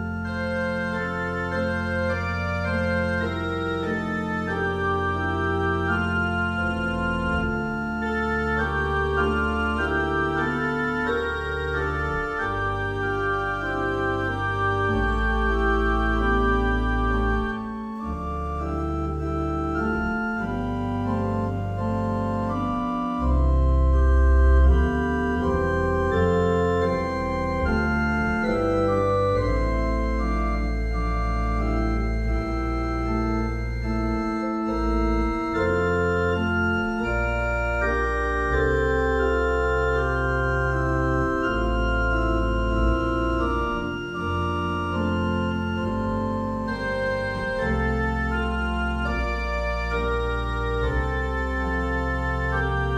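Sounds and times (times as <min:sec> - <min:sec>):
organ playing sustained chords: 0:00.0 - 0:52.9.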